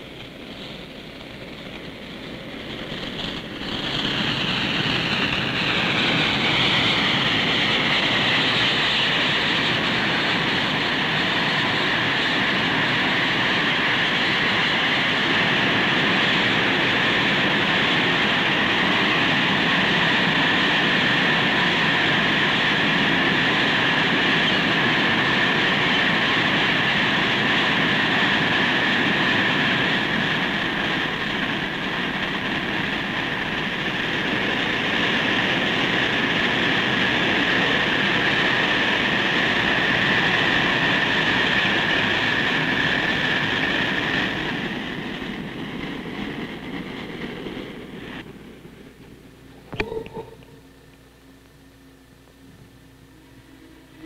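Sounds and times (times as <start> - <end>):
steam train wheels rushing: 0.0 - 49.4
high whine: 0.0 - 54.0.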